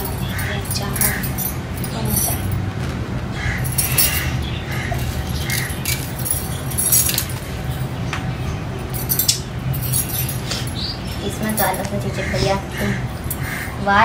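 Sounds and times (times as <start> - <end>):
glass bangles clinking: 0.0 - 2.7, 3.6 - 12.2, 13.1 - 13.7.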